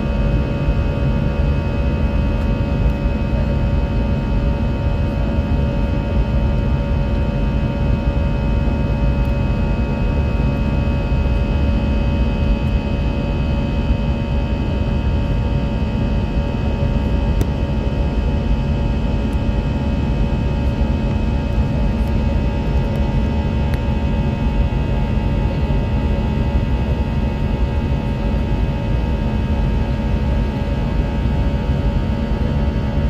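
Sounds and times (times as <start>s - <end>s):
jet engine and airflow roar: 0.0s - 33.0s.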